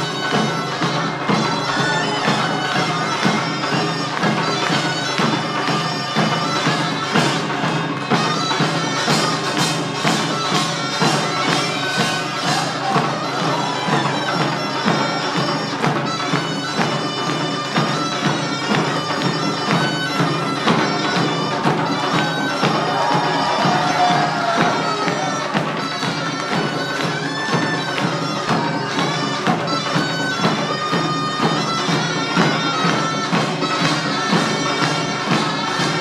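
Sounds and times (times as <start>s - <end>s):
drums and gongs beat: 0.0s - 36.0s
shawm playing piercing melody: 0.0s - 36.0s.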